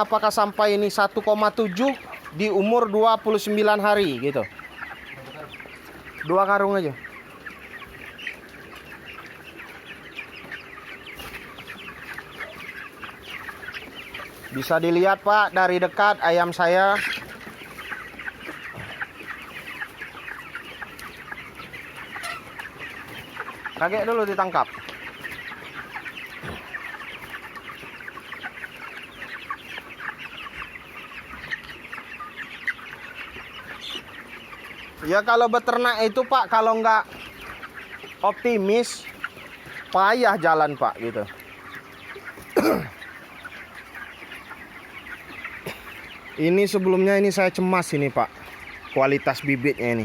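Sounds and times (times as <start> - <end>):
chickens peeping: 0.0 - 50.0.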